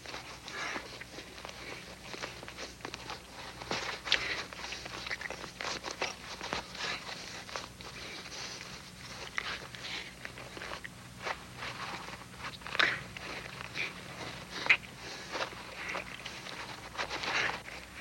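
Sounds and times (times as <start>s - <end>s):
woman chewing with crunching bites: 0.0s - 18.0s.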